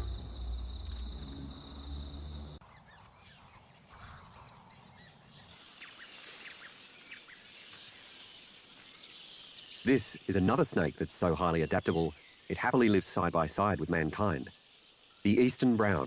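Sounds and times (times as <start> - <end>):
high insect hiss: 0.0 - 2.7, 3.9 - 16.0
insect trill: 0.0 - 16.0.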